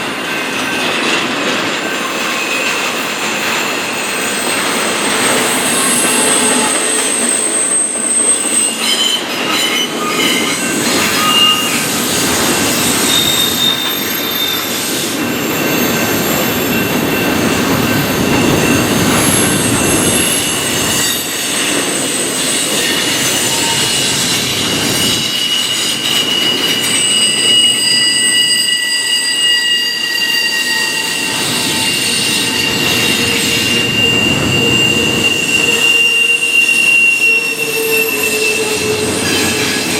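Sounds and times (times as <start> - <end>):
train rumble: 0.0 - 28.0, 30.8 - 39.9
train wheels squealing: 0.0 - 39.9.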